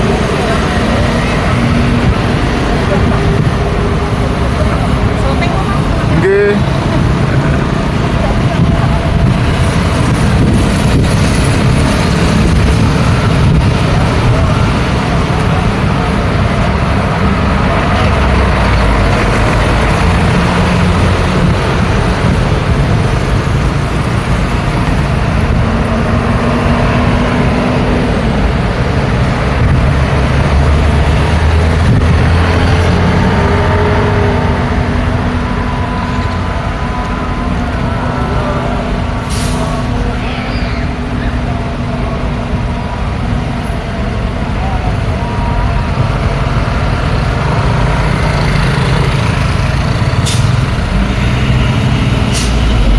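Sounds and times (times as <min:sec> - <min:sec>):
busy road traffic: 0:00.0 - 0:52.9.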